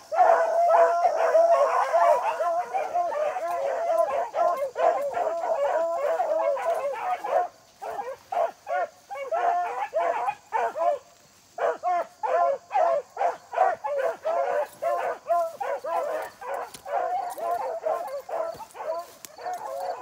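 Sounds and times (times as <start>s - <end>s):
dogs baying: 0.0s - 20.0s.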